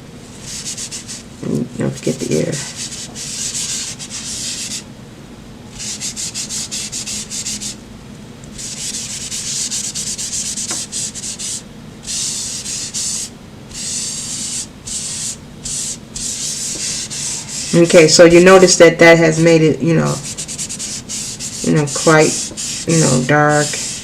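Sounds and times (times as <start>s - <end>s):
tissue paper rubbing on paper: 0.4s - 1.2s, 1.9s - 4.8s, 5.7s - 7.8s, 8.6s - 18.0s, 20.1s - 24.0s.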